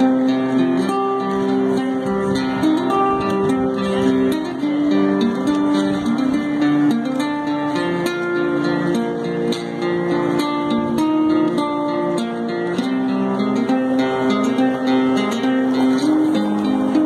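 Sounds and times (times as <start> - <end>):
fingerpicked classical guitar: 0.0 - 17.0.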